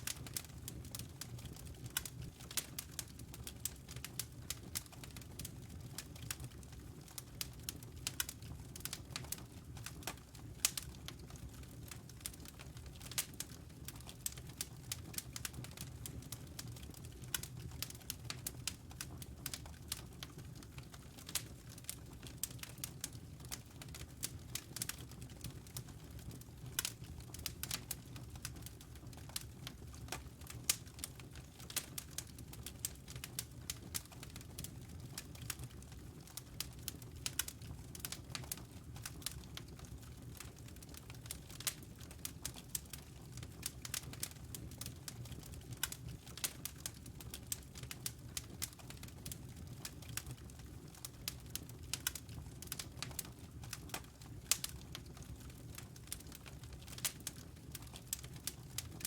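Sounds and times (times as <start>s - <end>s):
low rumble of burning logs: 0.0s - 59.0s
wood fire crackling: 0.0s - 59.0s.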